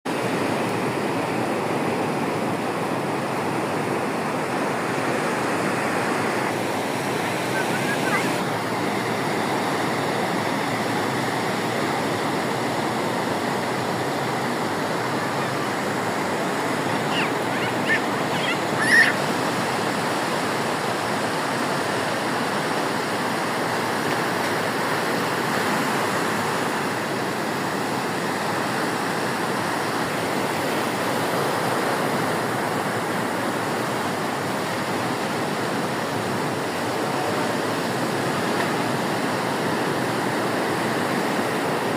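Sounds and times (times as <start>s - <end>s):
waves breaking on beach: 0.1s - 41.9s.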